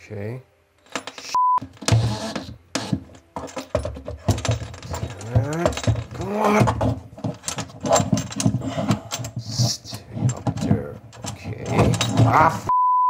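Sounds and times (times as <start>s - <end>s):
metal cable clicking and rattling: 0.8s - 12.7s.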